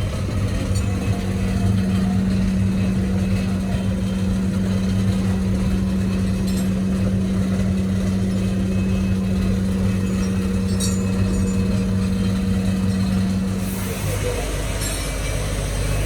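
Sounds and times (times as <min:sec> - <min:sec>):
workshop machine humming: 0:00.0 - 0:16.0.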